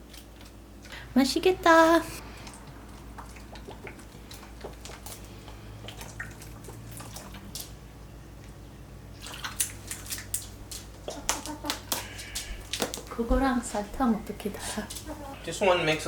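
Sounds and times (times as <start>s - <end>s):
low steady hum: 0.0s - 16.0s
liquid sloshing: 2.2s - 15.6s.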